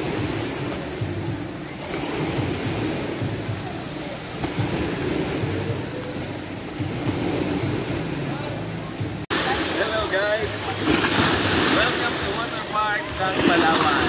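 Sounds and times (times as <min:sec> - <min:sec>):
waves washing and splashing: 0:00.0 - 0:14.0.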